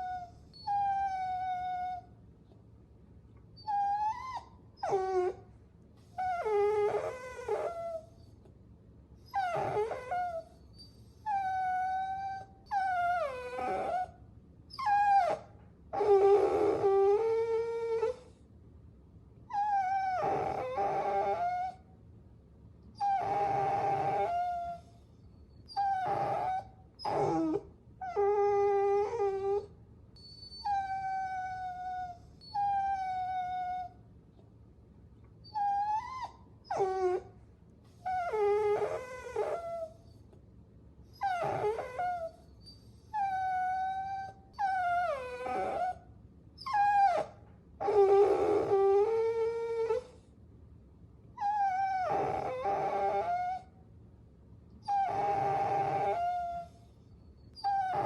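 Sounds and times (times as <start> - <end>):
puppy whining: 0.0 - 2.2, 3.4 - 8.5, 9.2 - 18.4, 19.5 - 21.9, 22.9 - 34.5, 35.2 - 40.4, 41.0 - 50.3, 51.3 - 53.8, 54.8 - 58.0.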